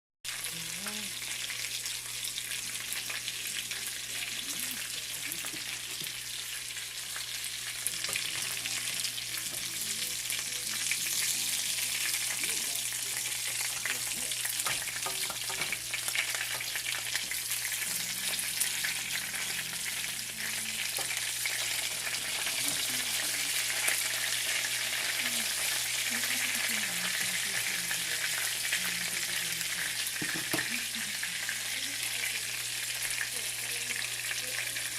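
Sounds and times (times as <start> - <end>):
chicken frying in hot oil: 0.3 - 34.9.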